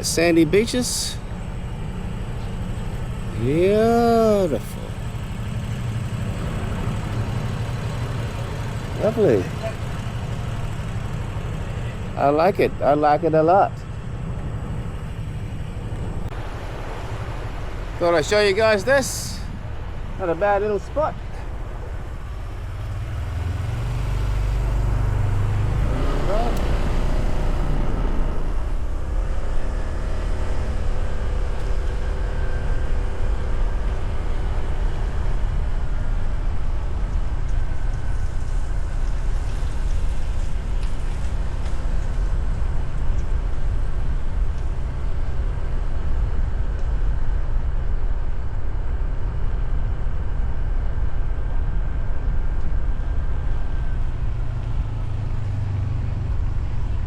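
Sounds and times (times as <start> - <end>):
motorcycle engine running: 0.0 - 16.3, 21.4 - 57.0.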